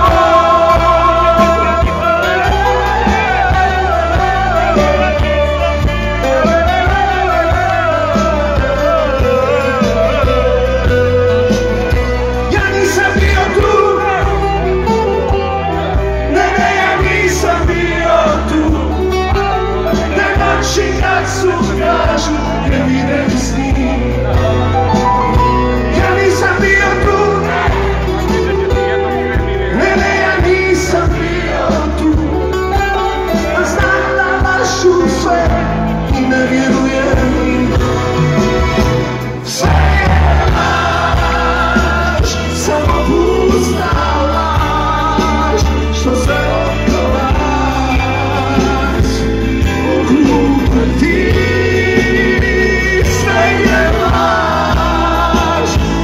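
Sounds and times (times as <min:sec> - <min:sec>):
live band playing loudly: 0:00.0 - 0:56.0
man singing lead: 0:00.0 - 0:56.0.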